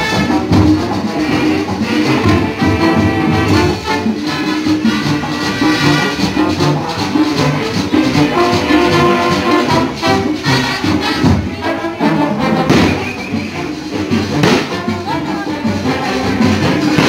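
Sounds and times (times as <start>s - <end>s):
big band latin dance music: 0.0s - 17.0s.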